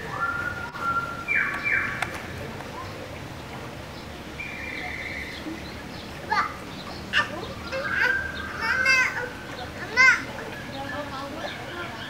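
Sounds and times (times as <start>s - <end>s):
birds chirping and whistling: 0.0s - 2.2s, 4.0s - 12.0s
low steady background hush: 0.0s - 12.0s.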